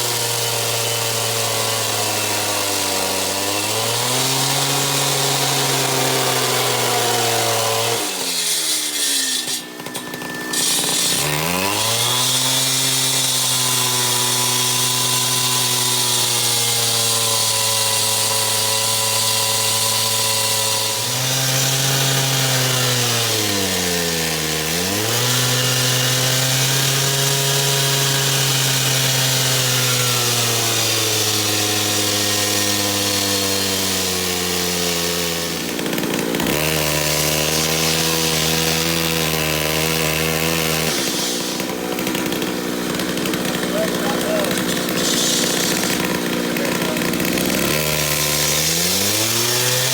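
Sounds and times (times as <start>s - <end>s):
blade grinding concrete: 0.0s - 49.9s
concrete saw engine: 0.0s - 49.9s.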